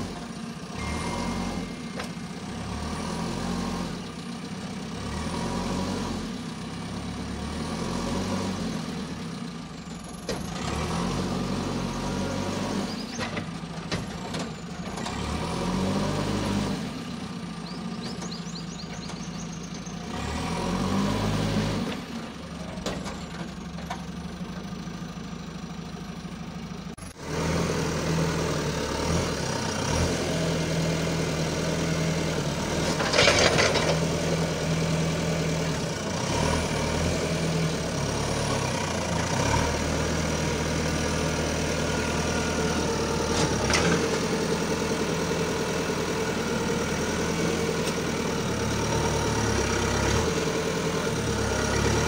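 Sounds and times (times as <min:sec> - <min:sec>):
diesel engine revving: 0:00.0 - 0:52.0.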